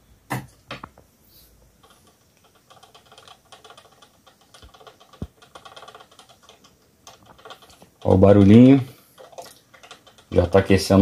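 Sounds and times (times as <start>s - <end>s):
coffee maker crackling ticks: 1.8s - 11.0s.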